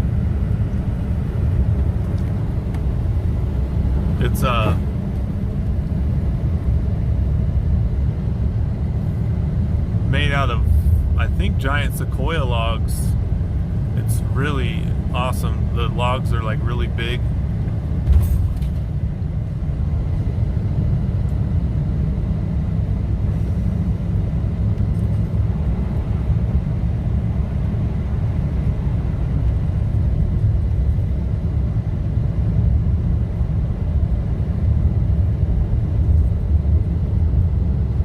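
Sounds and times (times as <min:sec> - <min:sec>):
pickup engine and tyre rumble: 0:00.0 - 0:38.0.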